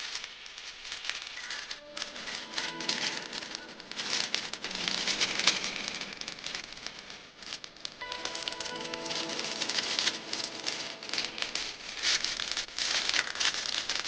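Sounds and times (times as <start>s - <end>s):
packaging crackling and crinkling: 0.0s - 14.0s
soft background music: 1.4s - 13.5s.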